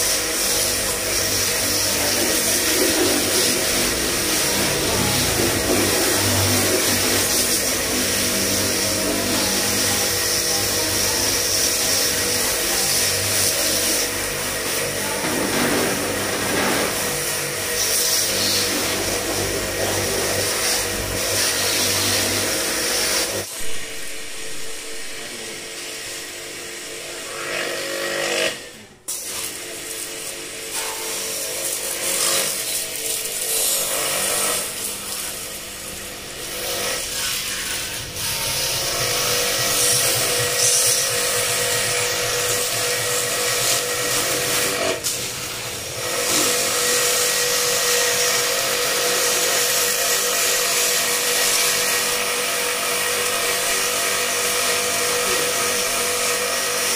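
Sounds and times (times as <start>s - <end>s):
pressure washer motor humming: 0.0s - 27.4s, 28.3s - 56.9s.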